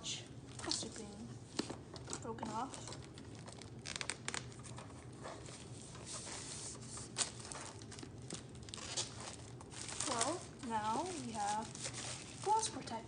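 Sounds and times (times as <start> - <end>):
plastic packaging crackling: 0.5 - 13.0
rustling: 2.4 - 12.9.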